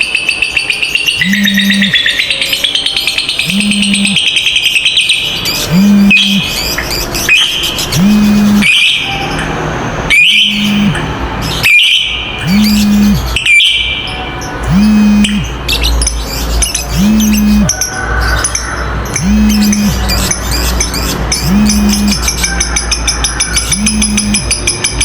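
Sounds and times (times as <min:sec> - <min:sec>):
lovebirds shrill chattering: 0:00.0 - 0:25.0.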